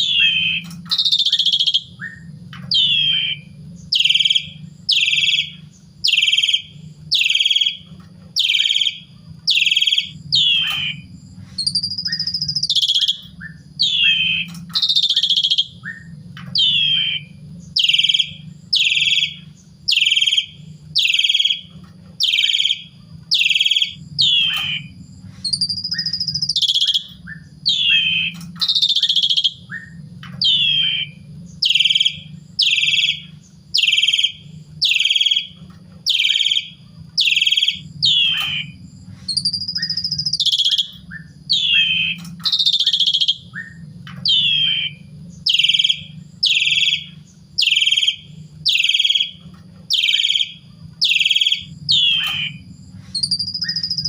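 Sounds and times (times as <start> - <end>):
low hum: 0.0 - 54.0
rising and falling whistle: 0.0 - 54.0
starling calling: 0.0 - 54.0.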